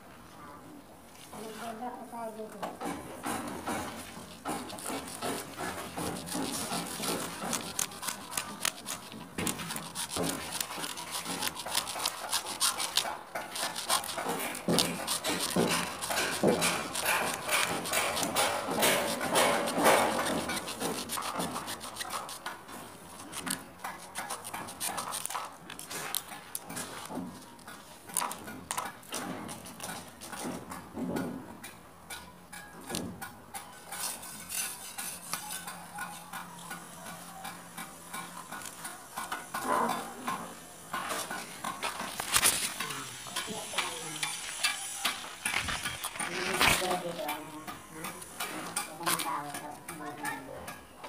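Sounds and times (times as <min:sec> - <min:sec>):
hacksaw scraping plastic pipe: 0:02.8 - 0:36.4, 0:37.4 - 0:50.8.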